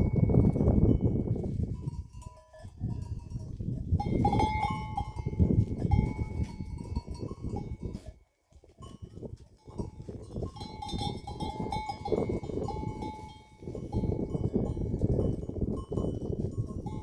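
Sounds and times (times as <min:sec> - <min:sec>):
livestock bells ringing: 0:00.0 - 0:08.2, 0:08.8 - 0:17.0.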